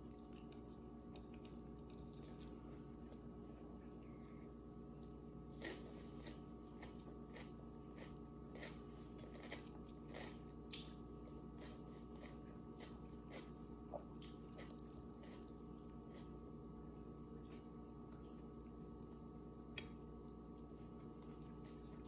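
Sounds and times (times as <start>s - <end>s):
person chewing food: 0.0s - 4.2s, 5.0s - 16.8s, 17.4s - 18.9s, 19.7s - 22.0s.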